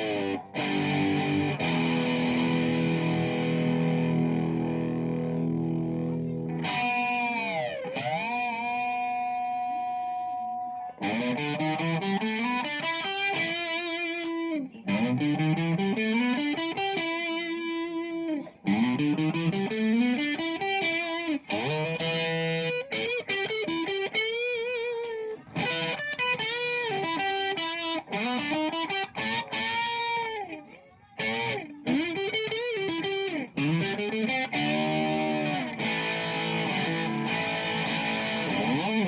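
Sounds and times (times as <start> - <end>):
electric guitar lead phrases: 0.0 - 39.0.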